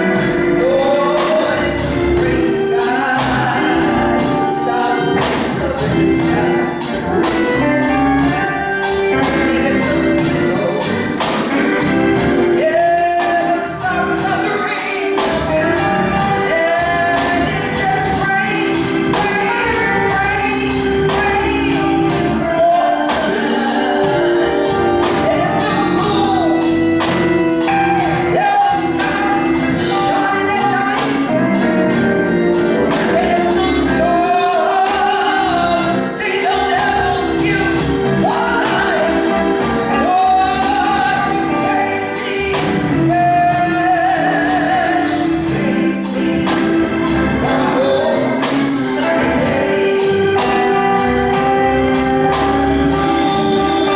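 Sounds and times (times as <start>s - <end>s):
band with percussion: 0.0s - 53.9s
gospel singing: 0.0s - 53.9s.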